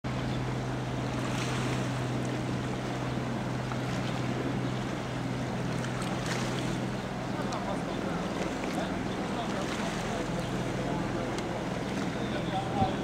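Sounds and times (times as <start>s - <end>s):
boat engine droning: 0.1s - 13.0s
wind and sea hiss: 0.1s - 13.0s.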